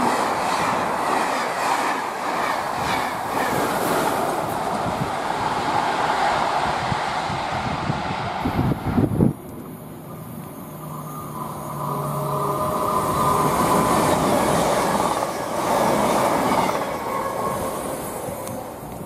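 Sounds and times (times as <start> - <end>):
diesel train passing at speed: 0.0 - 19.0.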